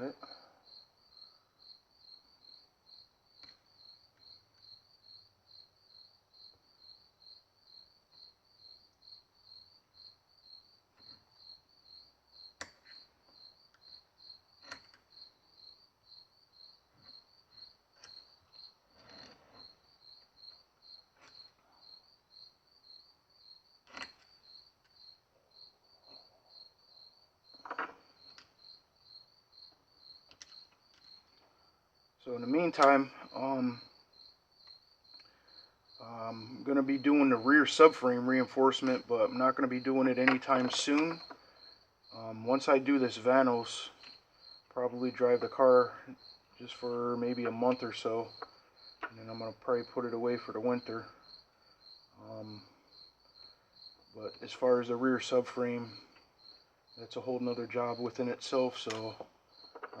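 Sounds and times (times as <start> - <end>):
cricket chirping: 0.0 - 60.0.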